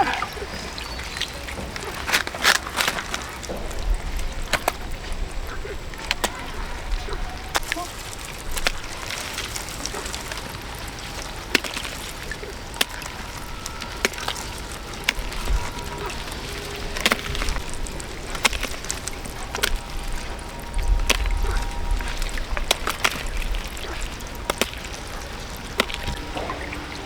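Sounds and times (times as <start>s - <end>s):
water splashing: 0.0s - 27.0s.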